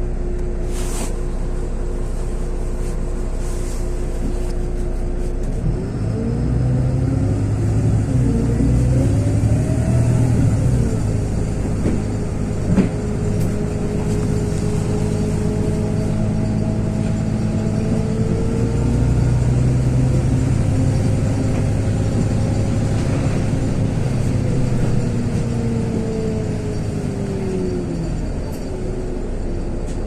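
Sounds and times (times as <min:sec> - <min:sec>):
bus engine drone with whine: 0:00.0 - 0:30.0.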